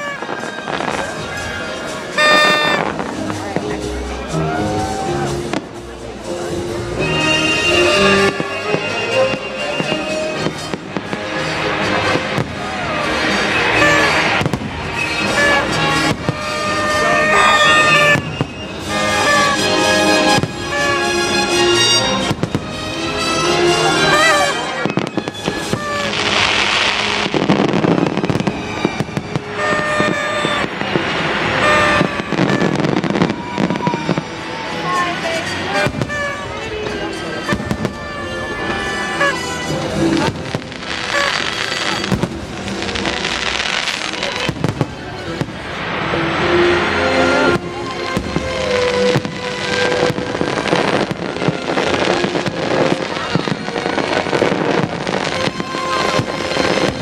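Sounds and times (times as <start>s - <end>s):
noisemaker horns: 0.0s - 3.1s, 7.0s - 57.0s
crowd shouting: 0.0s - 5.7s, 6.9s - 57.0s
fireworks bangs and crackles: 0.0s - 57.0s
show music: 0.0s - 57.0s.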